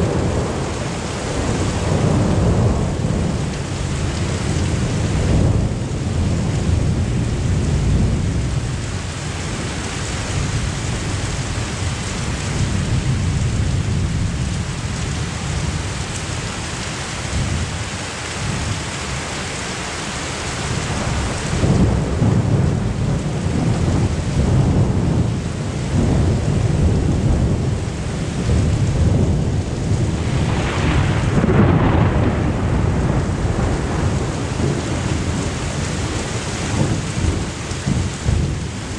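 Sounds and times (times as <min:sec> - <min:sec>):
thunder rumbling: 0:00.0 - 0:19.2, 0:20.6 - 0:38.9
heavy rain pouring: 0:00.0 - 0:38.9.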